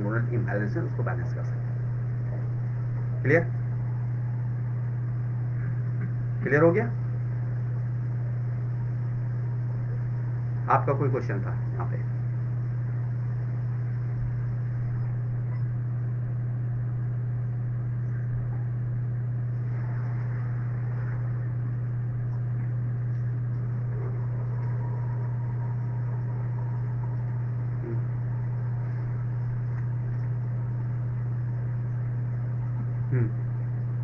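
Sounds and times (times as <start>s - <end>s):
low hum with faint hiss: 0.0s - 34.0s.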